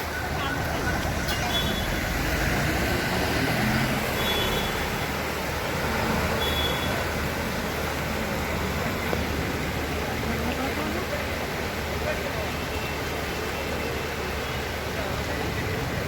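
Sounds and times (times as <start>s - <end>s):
road traffic with engines: 0.0s - 16.0s.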